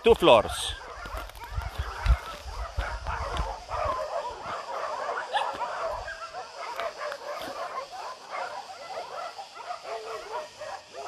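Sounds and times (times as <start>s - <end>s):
pack of dogs barking and yelping: 0.1s - 11.0s.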